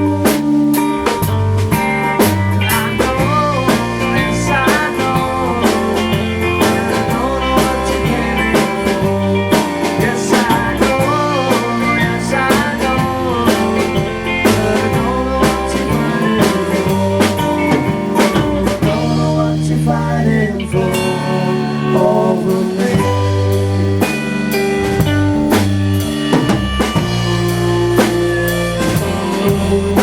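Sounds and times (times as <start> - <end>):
bass notes: 0.0 - 30.0
drum kit: 0.0 - 30.0
guitar with bending notes: 0.0 - 30.0.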